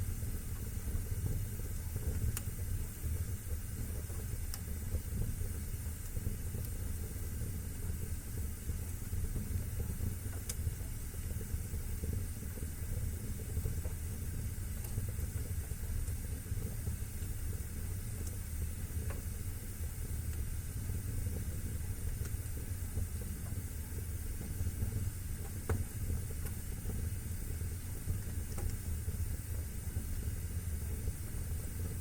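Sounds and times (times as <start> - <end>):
fire crackles and pops: 0.0 - 32.0
wood fire rumbling: 0.0 - 32.0.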